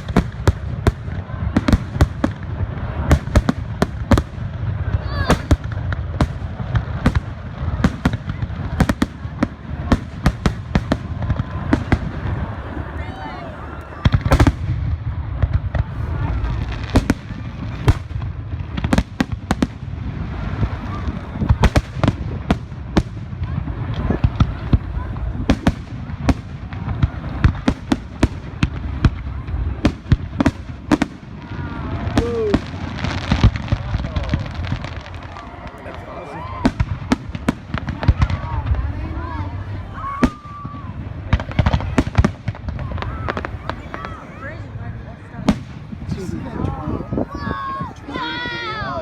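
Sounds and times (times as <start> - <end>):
fireworks banging: 0.0 - 49.0.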